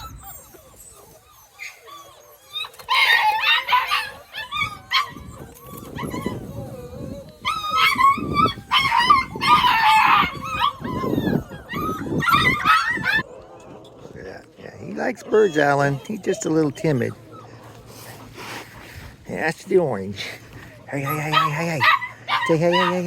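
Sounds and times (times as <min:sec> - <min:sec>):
puppies whining and yipping: 0:00.0 - 0:23.0.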